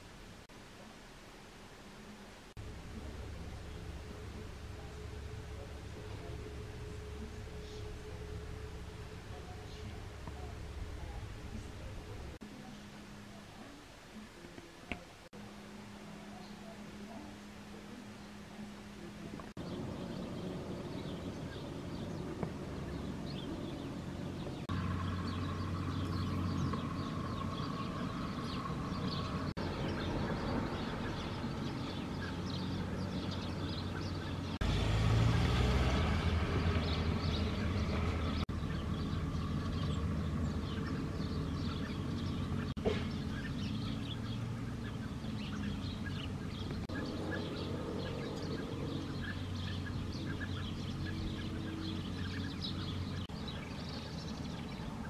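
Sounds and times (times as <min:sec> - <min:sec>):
road traffic hum: 0:02.6 - 0:12.8, 0:16.3 - 0:55.0
small birds chirping: 0:02.8 - 0:15.3, 0:16.1 - 0:55.0.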